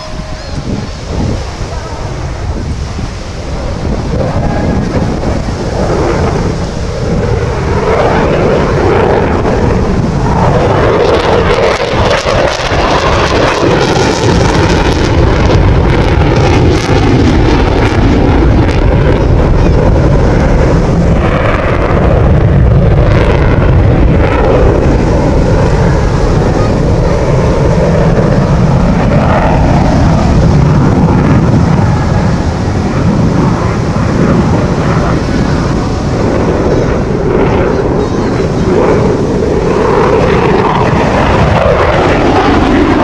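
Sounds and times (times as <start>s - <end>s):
jet engines with afterburner: 0.0s - 43.0s.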